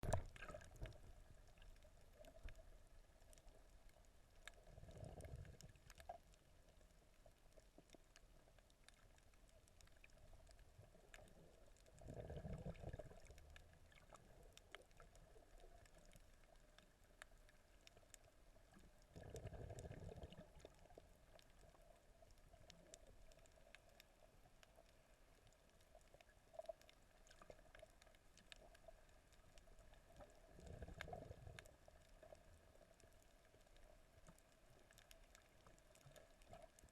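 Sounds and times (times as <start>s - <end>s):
underwater crackle of tiny clicks: 0.0s - 36.9s
underwater water swells: 0.0s - 36.9s.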